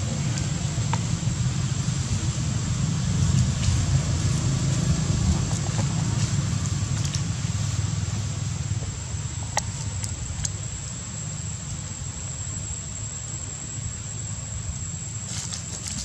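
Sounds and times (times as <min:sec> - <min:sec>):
low rumble: 0:00.0 - 0:14.8
high whine: 0:00.0 - 0:16.0.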